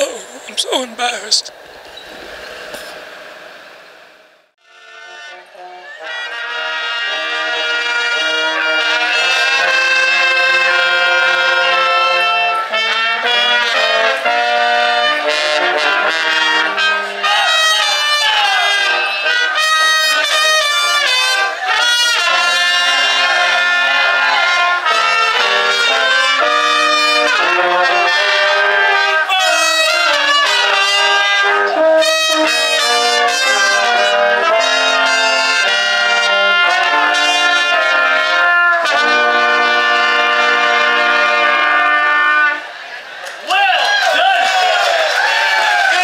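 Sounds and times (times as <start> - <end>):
oompah brass band playing: 4.6 - 43.2.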